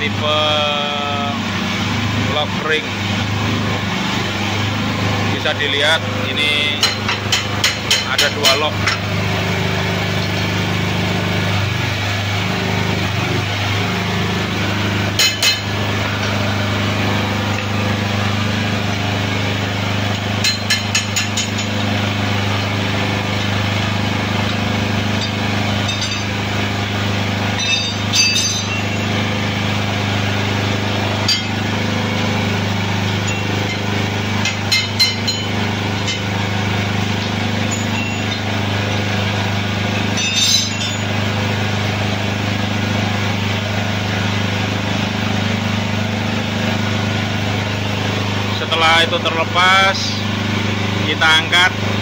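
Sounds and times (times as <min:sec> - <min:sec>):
hydraulic press humming: 0:00.0 - 0:52.0.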